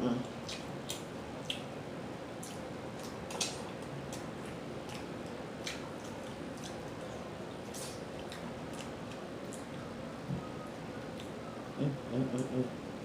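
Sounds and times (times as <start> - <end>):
person chewing with wet smacks: 0.2 - 12.6.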